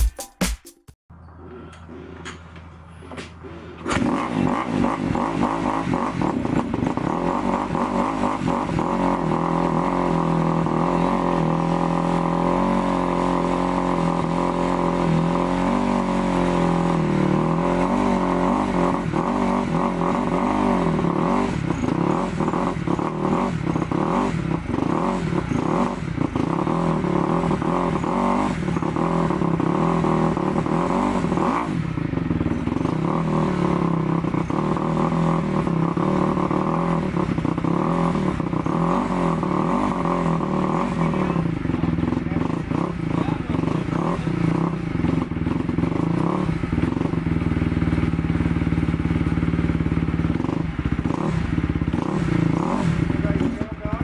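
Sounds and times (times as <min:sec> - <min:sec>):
dirt bike engine revving: 0:03.7 - 0:54.0.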